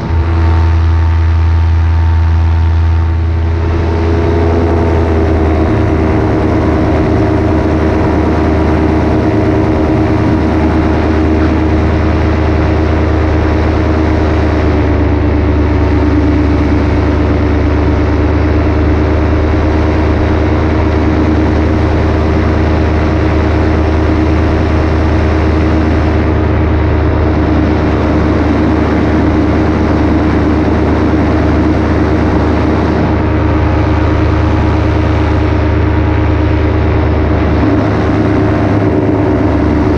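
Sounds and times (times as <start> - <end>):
airflow rushing past: 0.0 - 39.9
paramotor engine and propeller: 0.0 - 39.9.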